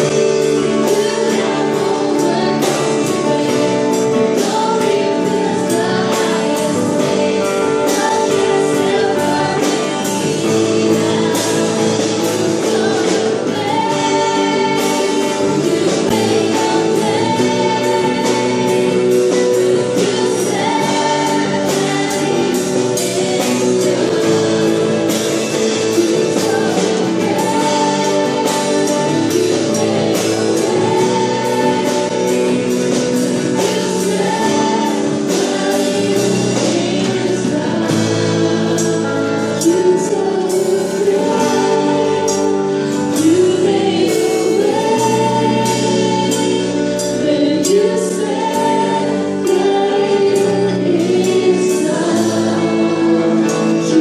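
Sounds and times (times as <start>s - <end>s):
bass guitar: 0.0s - 54.0s
drum kit steady beat: 0.0s - 54.0s
electric guitar: 0.0s - 54.0s
keyboard: 0.0s - 54.0s
woman singing lead: 0.0s - 54.0s.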